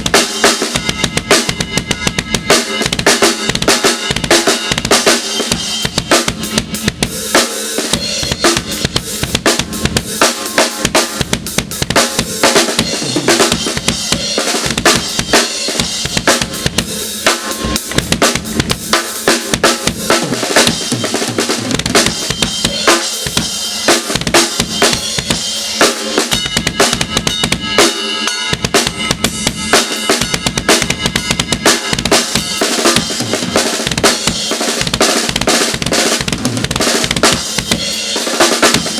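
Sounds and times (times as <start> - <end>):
rapid bass drum strokes: 0.0 - 38.9.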